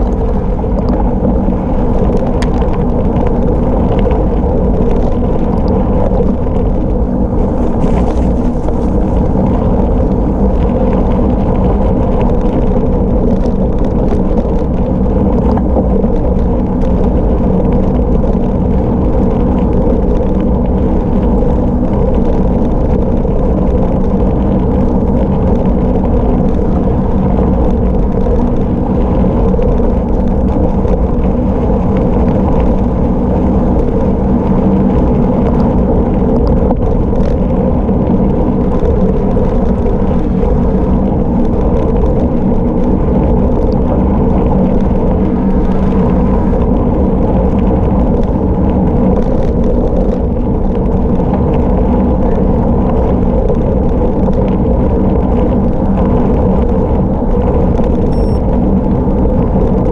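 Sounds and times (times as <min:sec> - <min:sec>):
tyres rolling on gravel: 0:00.0 - 0:53.2
wind buffeting microphone: 0:00.0 - 0:59.9.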